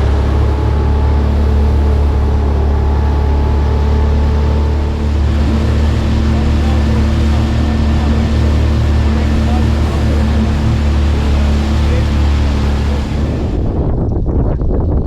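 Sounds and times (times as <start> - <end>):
outboard motor droning: 0.0 - 14.2.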